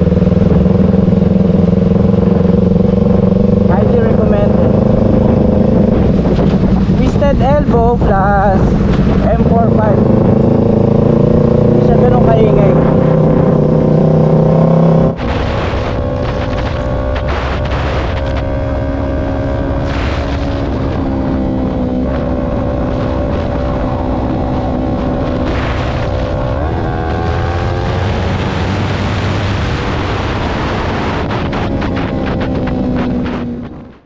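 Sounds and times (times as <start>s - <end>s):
motorcycle exhaust drone: 0.0s - 34.0s
wind on microphone: 0.0s - 34.0s.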